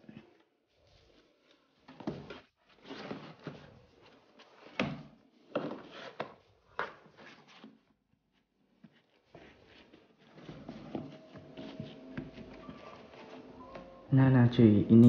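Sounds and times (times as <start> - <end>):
floor mat scraping and rustling: 0.0 - 13.9.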